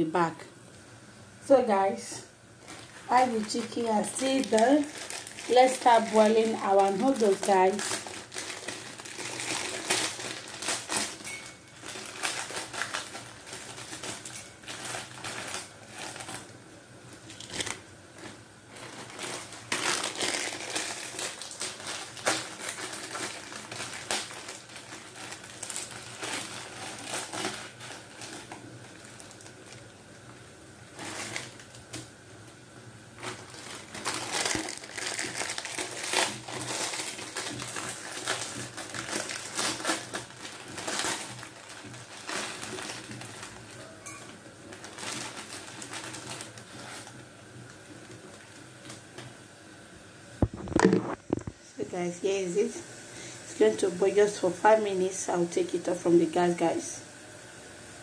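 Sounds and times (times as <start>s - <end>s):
plastic packaging crinkling: 2.5s - 32.2s, 32.9s - 49.4s, 50.4s - 51.9s.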